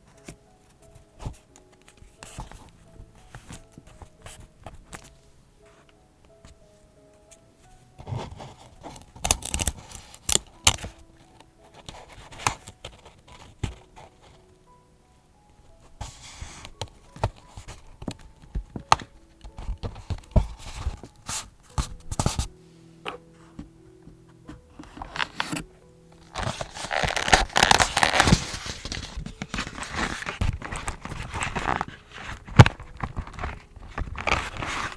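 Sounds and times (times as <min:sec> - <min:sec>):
paper and stationery clicks and rustles: 0:00.0 - 0:06.6, 0:08.0 - 0:14.5, 0:15.5 - 0:22.5, 0:23.1 - 0:34.9
soft background music: 0:00.0 - 0:34.9.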